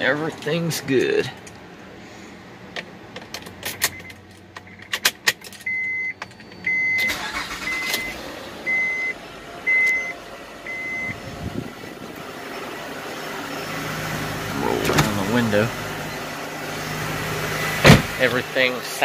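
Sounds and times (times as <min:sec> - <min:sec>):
car engine cranking and idling: 0:02.6 - 0:19.0.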